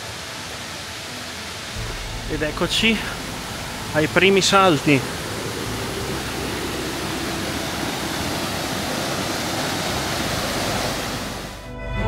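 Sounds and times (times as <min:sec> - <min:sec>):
waterfall rushing: 0:00.0 - 0:11.6
music: 0:00.0 - 0:12.0.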